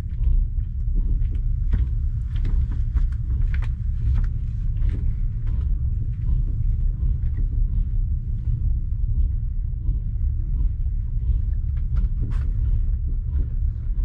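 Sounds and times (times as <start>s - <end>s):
train rolling with low rumble: 0.0s - 14.0s.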